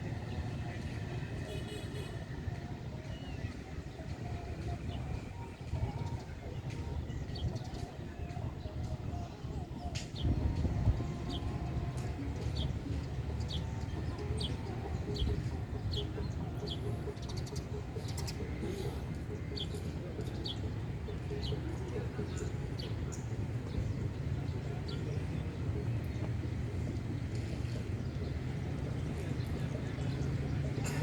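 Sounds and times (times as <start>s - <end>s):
road traffic rumbling: 0.0s - 31.0s.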